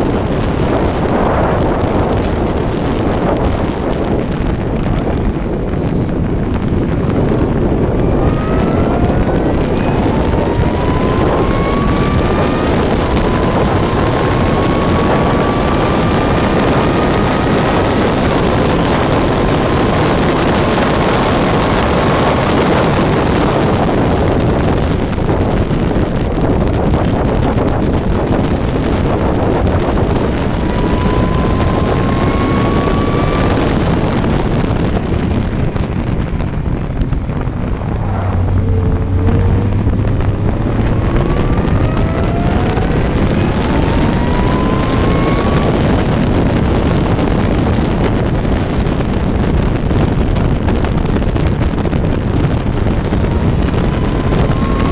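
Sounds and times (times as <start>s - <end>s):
race engine pulling through gears: 0.0s - 54.9s
wind buffeting on microphone: 0.0s - 54.9s.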